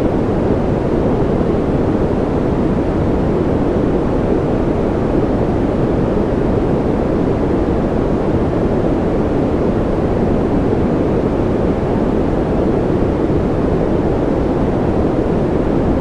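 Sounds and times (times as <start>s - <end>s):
deep white noise: 0.0s - 16.0s.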